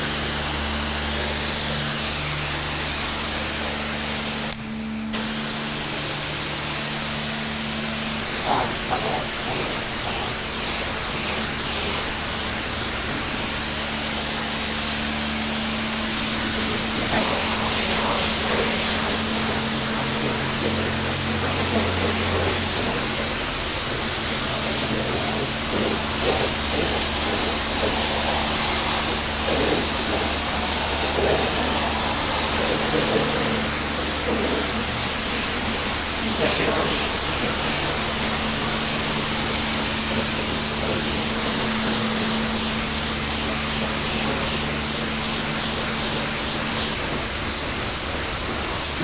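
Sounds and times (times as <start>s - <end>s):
motor humming: 0.0s - 49.0s
water spray hissing: 0.0s - 49.0s.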